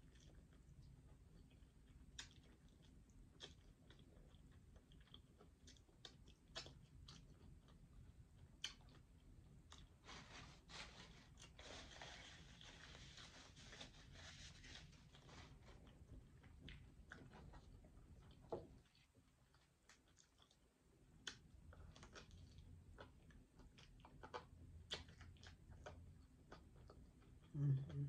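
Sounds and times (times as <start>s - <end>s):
chewing crunchy fried chicken: 0.0s - 28.0s.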